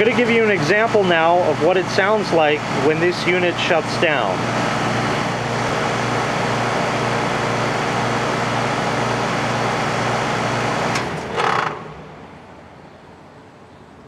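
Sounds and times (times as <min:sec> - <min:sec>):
compressor shutdown noise: 0:00.0 - 0:13.6
condenser fan coasting: 0:00.0 - 0:13.8
air conditioner compressor running: 0:00.0 - 0:14.0.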